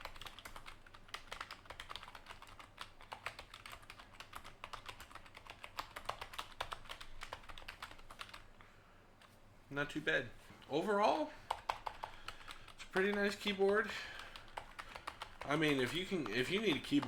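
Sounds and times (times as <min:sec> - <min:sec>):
typing on a keyboard: 0:00.0 - 0:08.5, 0:11.5 - 0:17.0.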